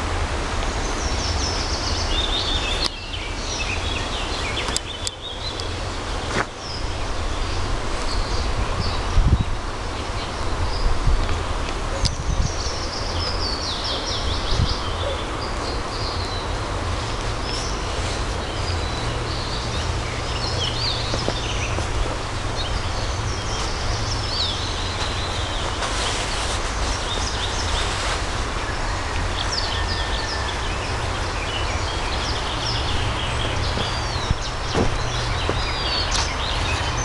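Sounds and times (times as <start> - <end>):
songbirds singing and chirping: 0.0 - 37.0.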